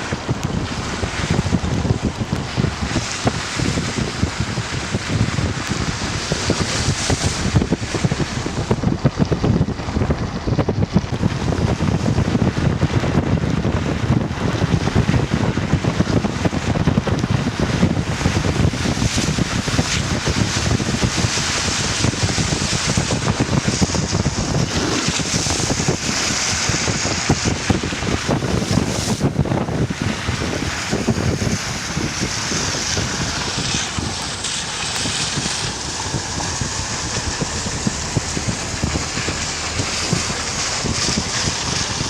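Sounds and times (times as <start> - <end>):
rushing stream water: 0.0 - 13.7, 18.3 - 42.0.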